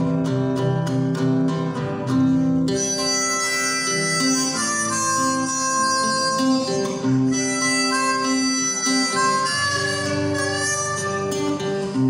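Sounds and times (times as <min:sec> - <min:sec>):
acoustic guitars: 0:00.0 - 0:12.0
harmonica melody: 0:02.3 - 0:12.0.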